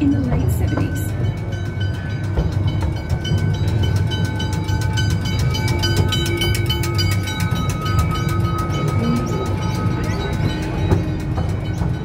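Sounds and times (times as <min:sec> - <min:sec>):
rapid track clicks: 0:00.0 - 0:12.0
train carriage rumbling on track: 0:00.0 - 0:12.0.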